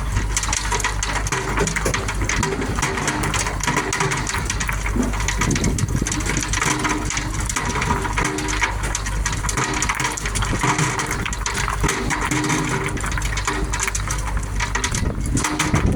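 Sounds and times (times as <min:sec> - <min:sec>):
engine drone: 0:00.0 - 0:15.9
stony soil clattering: 0:00.0 - 0:15.9.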